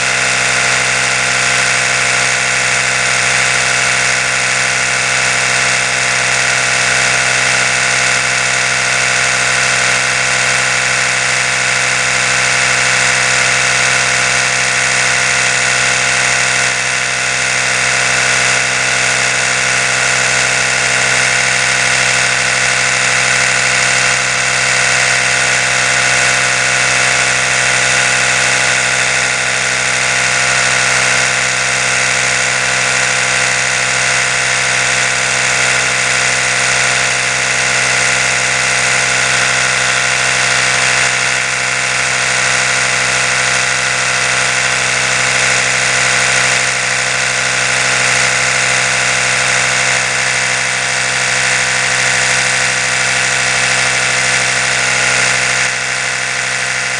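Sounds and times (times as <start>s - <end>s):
electric toothbrush buzzing: 0.0s - 56.9s.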